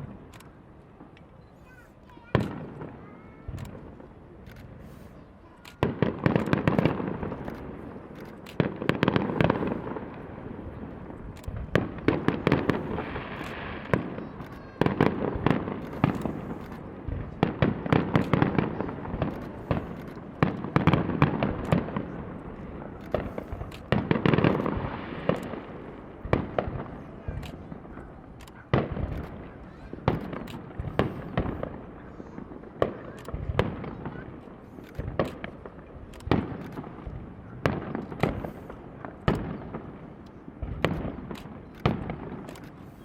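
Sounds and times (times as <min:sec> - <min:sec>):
fireworks booming and cracking: 0:00.0 - 0:43.0.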